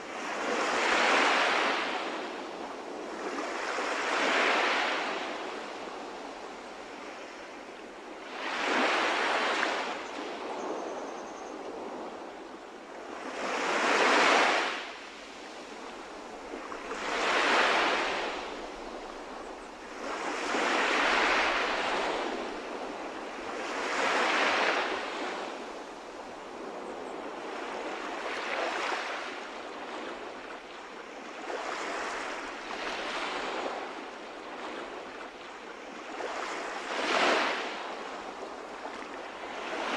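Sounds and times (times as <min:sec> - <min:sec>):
sea waves breaking: 0:00.0 - 0:10.4, 0:13.1 - 0:39.9.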